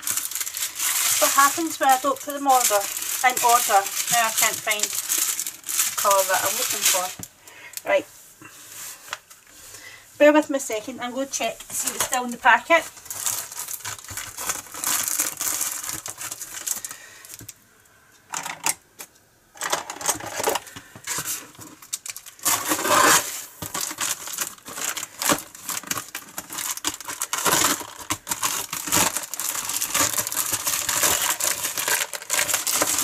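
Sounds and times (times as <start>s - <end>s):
plastic bag rustling and crinkling: 0.0s - 9.8s, 10.4s - 17.6s, 19.6s - 33.0s.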